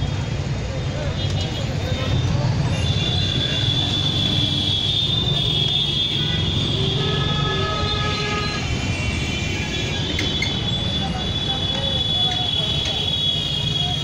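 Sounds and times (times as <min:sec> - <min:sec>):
traffic rumble: 0:00.0 - 0:14.0
vehicle horns: 0:01.1 - 0:14.0.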